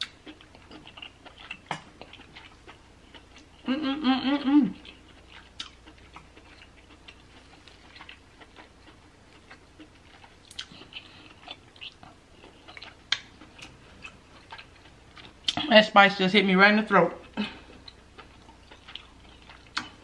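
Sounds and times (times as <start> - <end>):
soft chewing: 0.0 - 15.7, 17.1 - 20.0.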